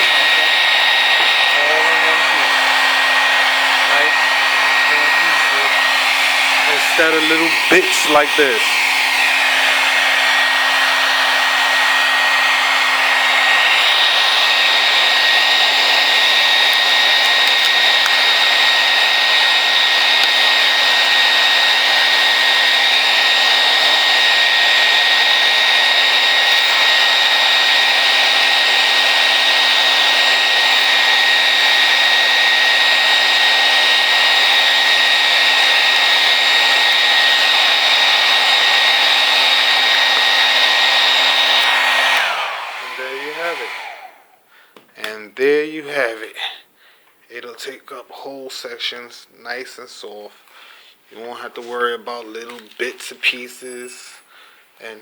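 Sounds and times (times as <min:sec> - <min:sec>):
hair dryer blowing: 0:00.0 - 0:45.1.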